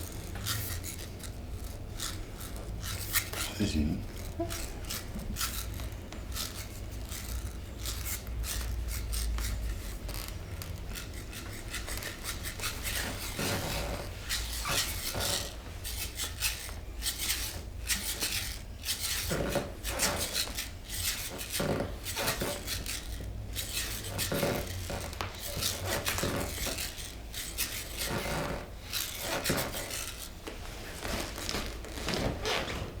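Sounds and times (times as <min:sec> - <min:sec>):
rubbing scrapes: 0:00.0 - 0:33.0.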